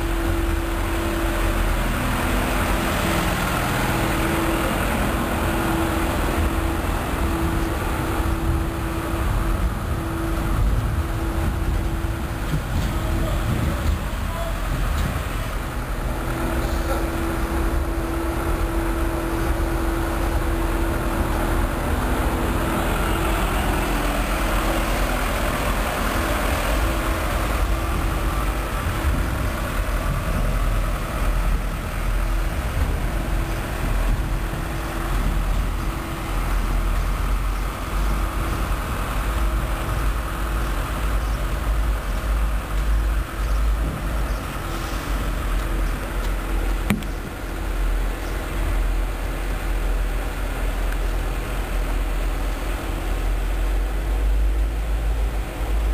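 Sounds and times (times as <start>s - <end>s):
locomotive engines rumbling: 0.0s - 55.9s
wheels rolling on rails: 0.0s - 55.9s.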